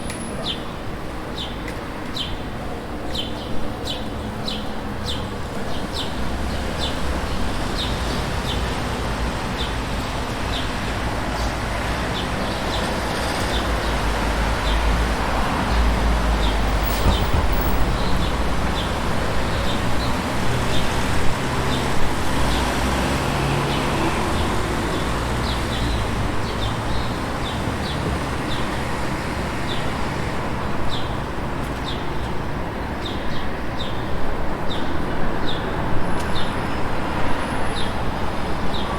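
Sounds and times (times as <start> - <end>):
road traffic rumble: 0.0 - 38.9.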